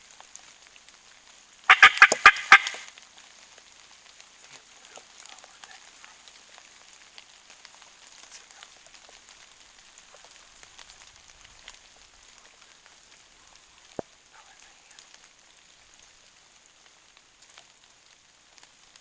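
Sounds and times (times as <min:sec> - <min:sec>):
rain falling: 0:00.0 - 0:19.0
raindrops ticking: 0:00.0 - 0:19.0.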